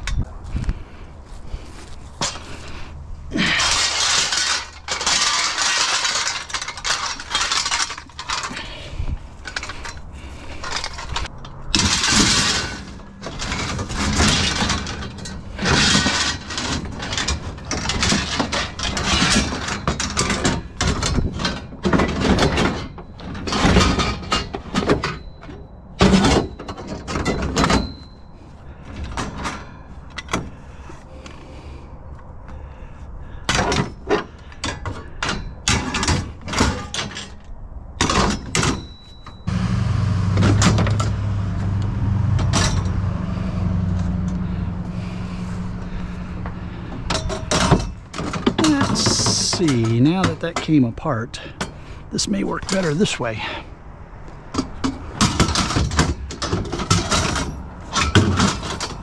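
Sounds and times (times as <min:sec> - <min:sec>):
metal poles clattering: 0:02.1 - 0:30.9, 0:33.3 - 0:53.6, 0:54.5 - 0:59.0.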